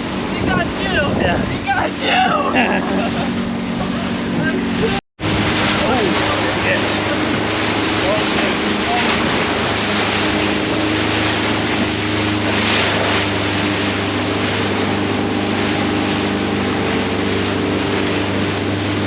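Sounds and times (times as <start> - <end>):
motorboat engine running: 0.0 - 19.0
rushing water and spray: 0.0 - 19.0
wind noise on microphone: 0.0 - 19.0.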